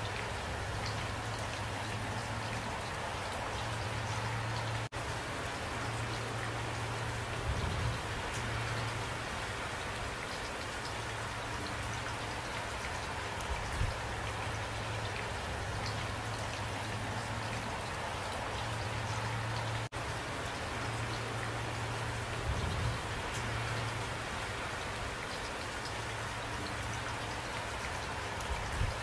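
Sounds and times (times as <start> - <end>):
drip ticks: 0.0 - 4.9, 7.8 - 29.0
rain falling: 0.0 - 29.0.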